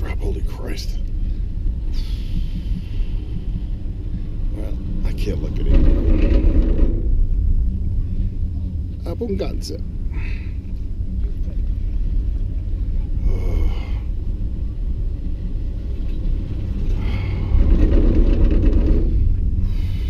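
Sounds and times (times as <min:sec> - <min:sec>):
chairlift rumble: 0:00.0 - 0:20.0
wind: 0:00.0 - 0:20.0.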